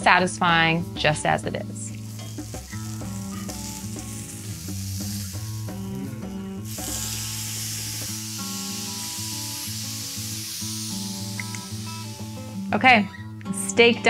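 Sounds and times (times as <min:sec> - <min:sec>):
background music: 0:00.0 - 0:14.0
steak sizzling in a skillet: 0:01.4 - 0:12.8.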